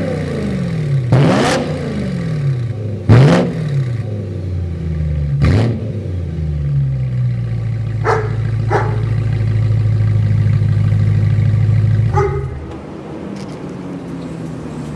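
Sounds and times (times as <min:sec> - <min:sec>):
car engine droning at raised revs: 0:00.0 - 0:14.9.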